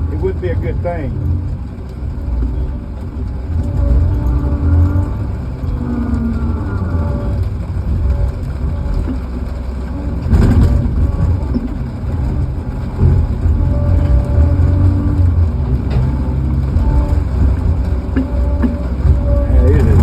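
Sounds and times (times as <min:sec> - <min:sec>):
log loader engine running: 0:00.0 - 0:20.0
thin whining tones: 0:00.0 - 0:20.0
heavy clunk: 0:00.1 - 0:20.0.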